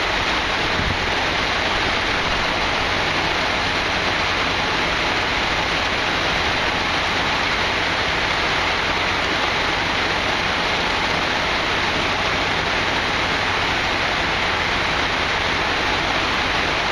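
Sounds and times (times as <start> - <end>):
rain falling steadily: 0.0 - 16.9.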